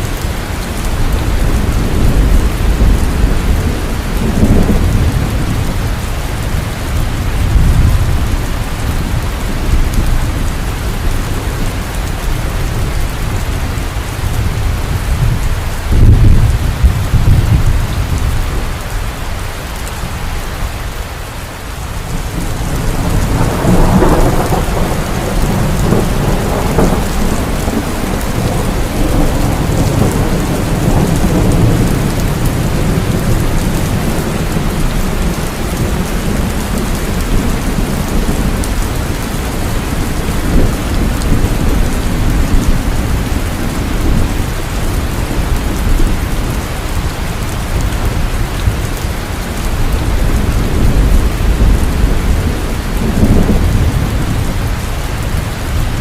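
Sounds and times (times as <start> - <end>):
heavy rain falling: 0.0 - 56.0
deep rolling thunder: 0.1 - 18.8, 22.0 - 56.0.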